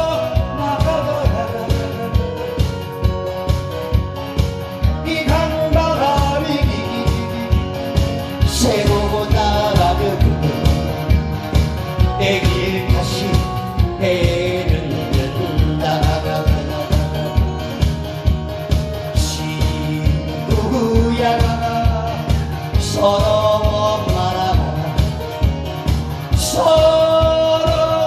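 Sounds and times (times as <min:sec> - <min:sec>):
man singing into a microphone: 0:00.0 - 0:03.4, 0:04.7 - 0:28.0
backing track with steady beat: 0:00.0 - 0:28.0.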